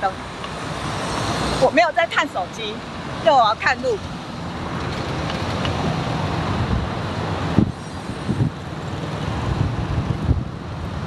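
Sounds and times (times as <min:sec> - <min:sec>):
road traffic on city street: 0:00.0 - 0:11.0.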